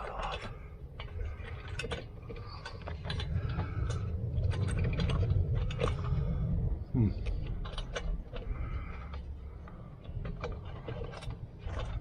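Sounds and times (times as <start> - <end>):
light metal clicks and rattles: 0.0 - 12.0
low steady rumble: 0.0 - 12.0.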